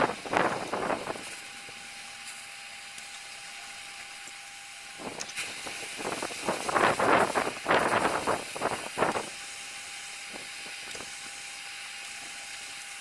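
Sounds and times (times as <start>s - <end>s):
gas blowtorch hissing: 0.0s - 2.4s, 4.9s - 13.0s.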